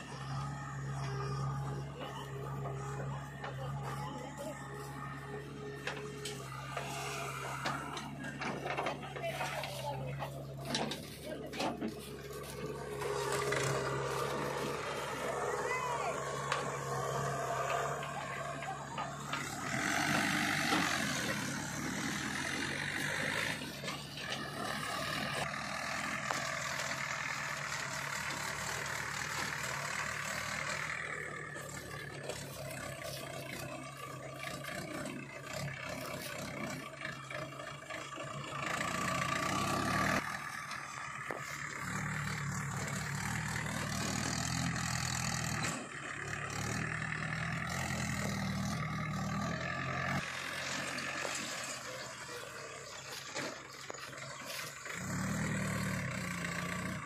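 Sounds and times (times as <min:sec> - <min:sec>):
backhoe loader diesel engine: 0:00.0 - 0:57.0
soil being loaded into trolley: 0:00.0 - 0:57.0
tractor diesel engine: 0:00.0 - 0:57.0.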